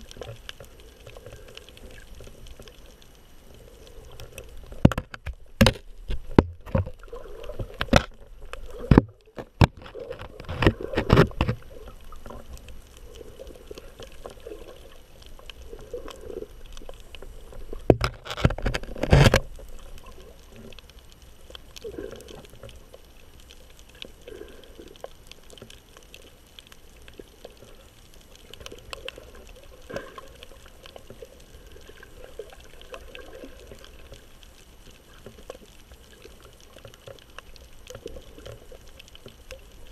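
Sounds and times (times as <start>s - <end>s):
muffled underwater water wash: 0.0s - 39.9s.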